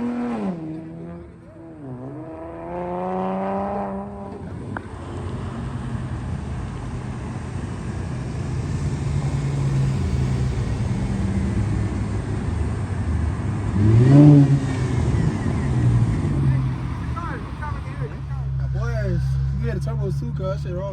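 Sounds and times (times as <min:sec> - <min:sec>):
car exhaust droning: 0:00.0 - 0:20.9
engine revving: 0:00.0 - 0:20.9.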